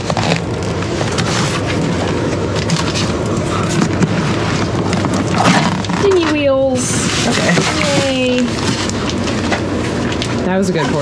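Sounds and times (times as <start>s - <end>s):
tape and cardboard tearing: 0.0s - 9.6s.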